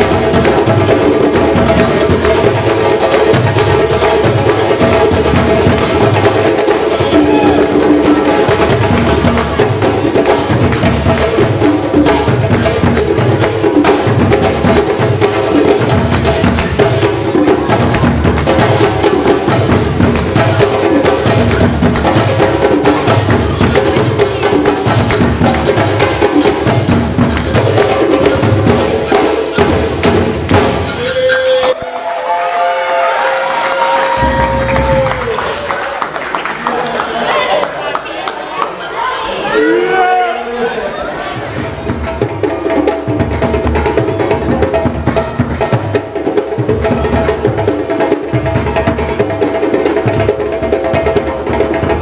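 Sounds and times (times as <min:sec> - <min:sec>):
hand drums played fast: 0:00.0 - 0:31.8, 0:34.0 - 0:36.2, 0:41.4 - 0:52.0.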